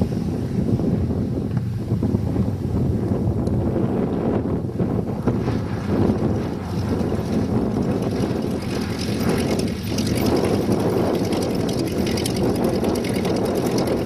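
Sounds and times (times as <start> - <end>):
light aircraft propeller engine: 0.0 - 14.0.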